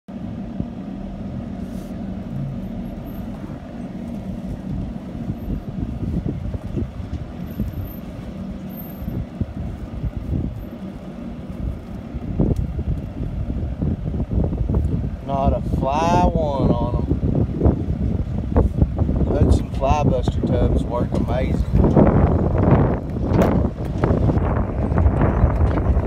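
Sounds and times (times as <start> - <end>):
vehicle engine idling: 0.1 - 26.0
wind rumble on microphone: 0.1 - 26.0.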